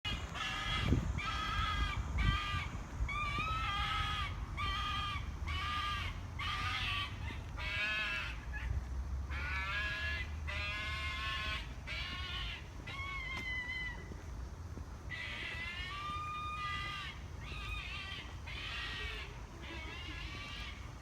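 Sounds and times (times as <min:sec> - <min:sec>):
animal shrill wailing calls: 0:00.4 - 0:08.7, 0:09.4 - 0:14.1, 0:15.1 - 0:20.8.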